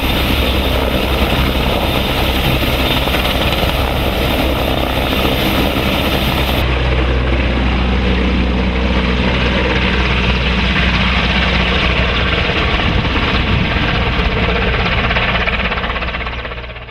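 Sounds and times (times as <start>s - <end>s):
helicopter rotor and turbine drone: 0.0s - 16.9s.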